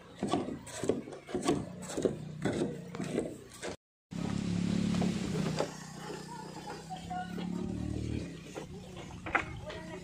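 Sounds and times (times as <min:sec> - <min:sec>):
footsteps on bamboo footbridge: 0:00.0 - 0:10.0.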